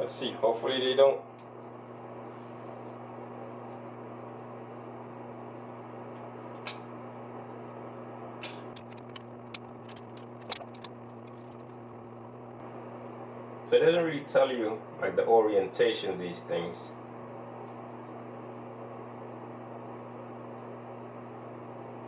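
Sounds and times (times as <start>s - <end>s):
fan hum: 0.0s - 22.0s.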